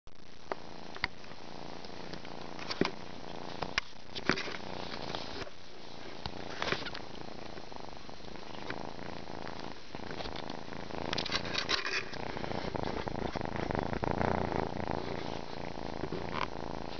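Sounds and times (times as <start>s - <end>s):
kitten purring: 0.3s - 16.9s.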